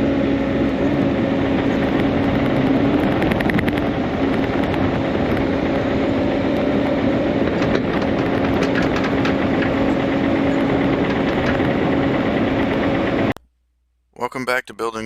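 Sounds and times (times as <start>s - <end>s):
diesel engine running: 0.0s - 13.4s.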